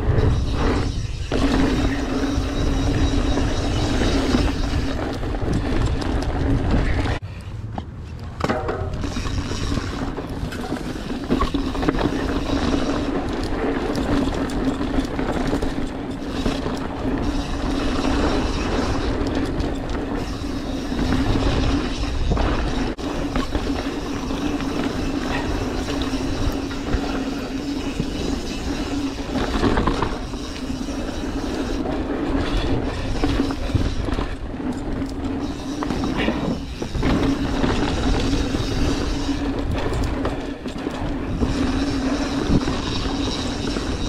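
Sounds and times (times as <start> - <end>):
bike frame and chain rattling: 0.0 - 7.2, 8.4 - 44.0
bike tyres rolling over dirt: 0.0 - 7.2, 8.4 - 44.0.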